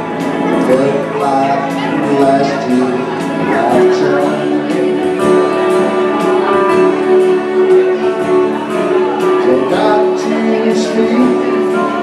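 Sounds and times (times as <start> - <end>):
country dance-band music: 0.0 - 12.0
guitar: 0.0 - 12.0.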